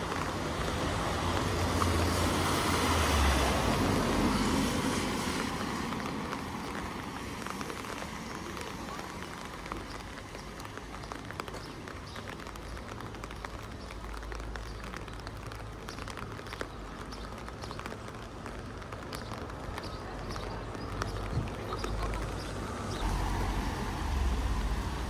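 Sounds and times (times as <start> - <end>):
raindrop ticks: 0.0 - 25.0
steady rain falling: 0.0 - 25.0.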